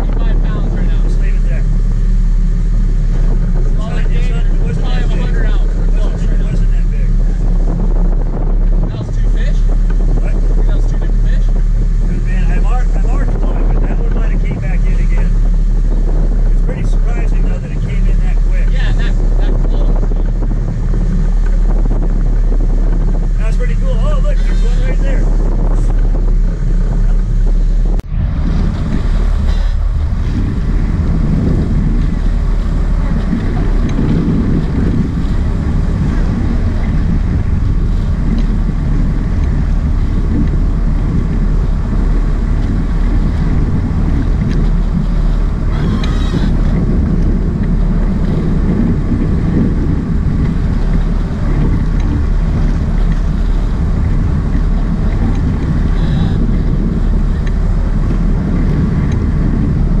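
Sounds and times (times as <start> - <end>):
boat engines rumbling: 0.0 - 60.0
water washing by: 0.0 - 60.0
wind buffeting microphone: 0.0 - 60.0.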